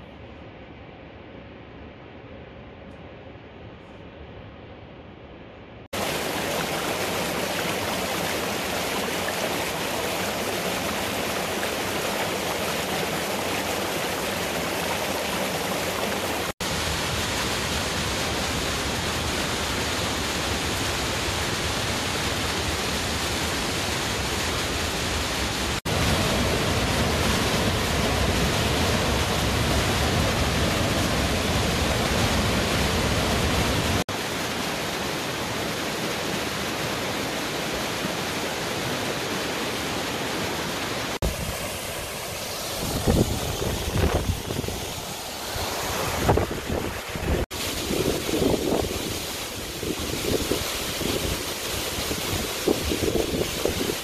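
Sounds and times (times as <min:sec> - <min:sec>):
rushing waterfall: 0:05.9 - 0:54.0.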